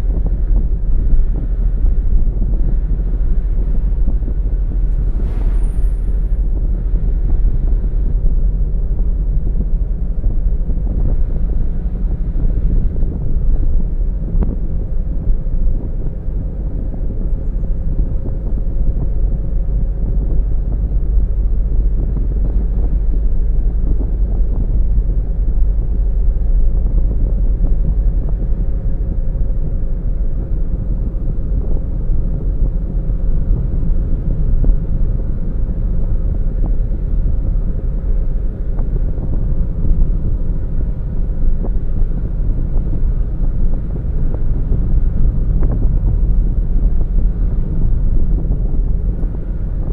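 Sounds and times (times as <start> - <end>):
car engine and tyre rumble: 0.0 - 49.9
faint steady whine: 0.0 - 49.9.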